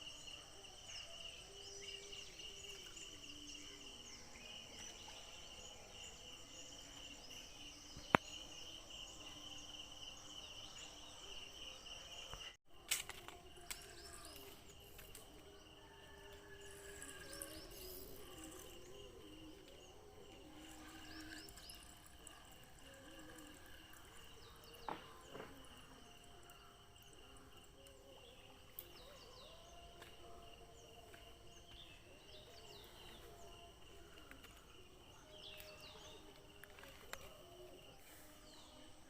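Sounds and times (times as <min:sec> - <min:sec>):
high insect drone: 0:06.0 - 0:39.0.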